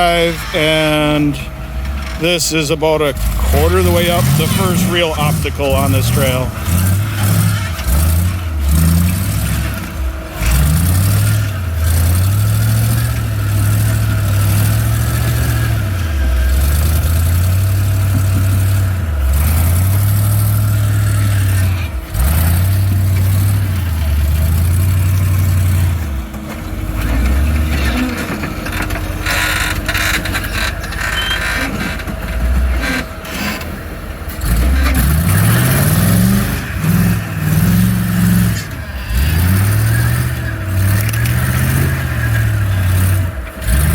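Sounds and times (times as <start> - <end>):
off-road vehicle engine revving: 0.0 - 43.9.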